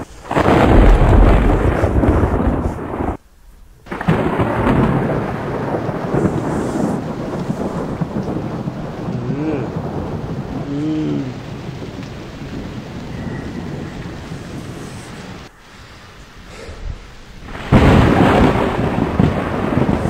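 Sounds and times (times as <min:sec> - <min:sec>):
thunder rumbling: 0:00.0 - 0:03.2, 0:03.8 - 0:20.0
rain: 0:00.0 - 0:20.0.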